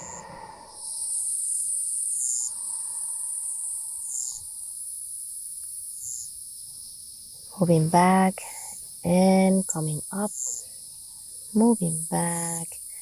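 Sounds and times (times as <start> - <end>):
insects trilling: 0.0 - 13.0
short insect chirp: 0.0 - 13.0.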